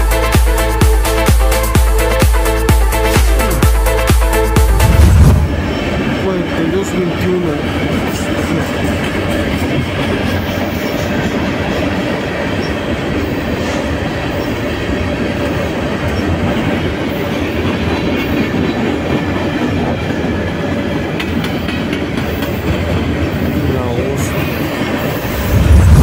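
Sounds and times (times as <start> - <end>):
freight train rumbling on rails: 0.0 - 26.0.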